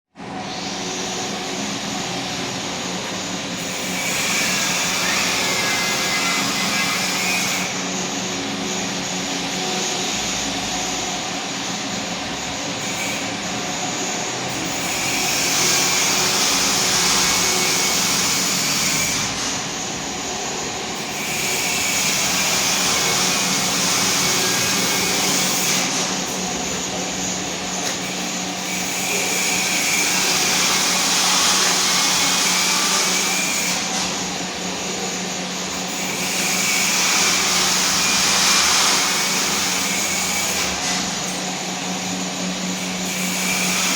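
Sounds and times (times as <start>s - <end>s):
high machine whine: 0.2s - 43.9s
milling machine motor hum: 0.2s - 43.9s.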